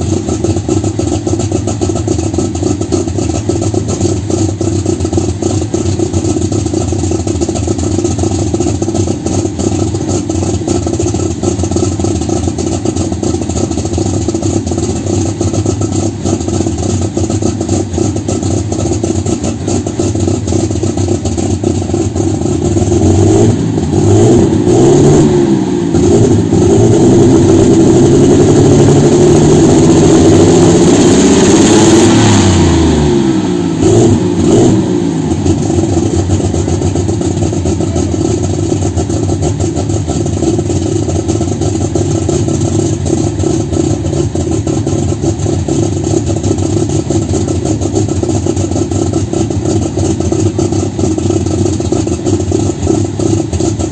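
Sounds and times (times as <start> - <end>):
tractor engine idling and revving: 0.0 - 53.9.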